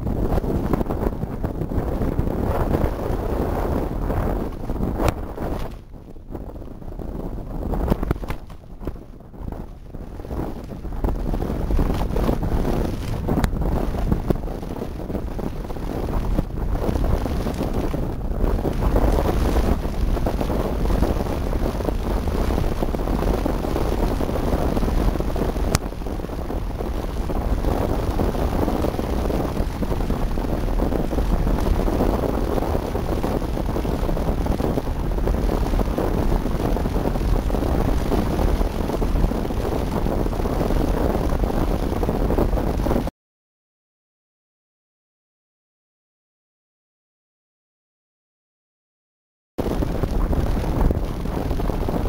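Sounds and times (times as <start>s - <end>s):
wind buffeting microphone: 0.0s - 43.1s, 49.6s - 52.0s.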